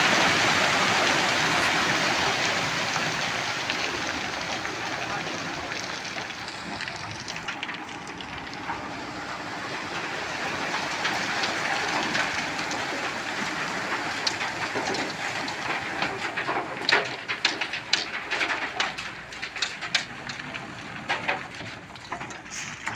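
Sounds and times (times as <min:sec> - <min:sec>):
machinery moving gravel: 0:00.0 - 0:22.9.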